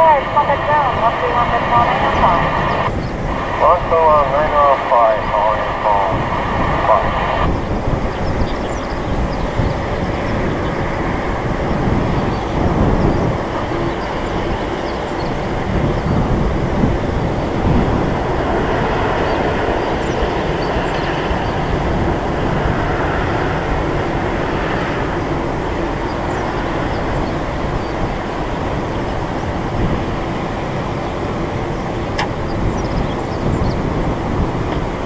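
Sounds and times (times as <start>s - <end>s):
distant jet engines rumbling: 0.0s - 35.0s.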